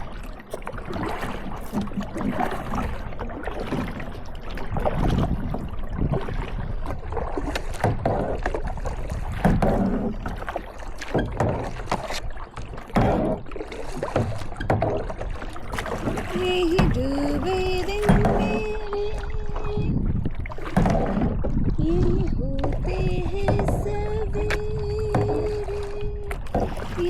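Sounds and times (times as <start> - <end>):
paddle strokes splashing in water: 0.0 - 27.0.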